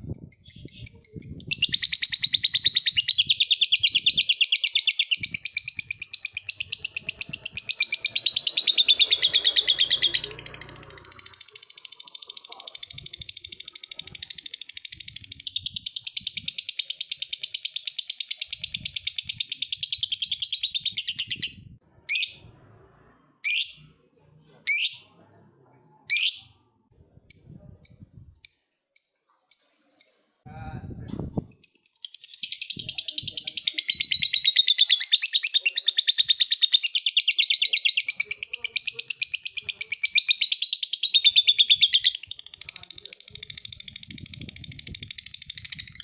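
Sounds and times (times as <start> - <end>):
lovebird chattering trill: 0.0 - 22.4, 31.4 - 46.0.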